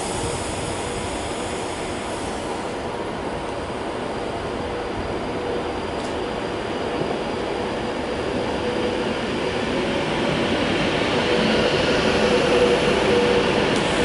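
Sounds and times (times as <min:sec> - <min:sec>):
electric train passing: 0:00.0 - 0:14.0.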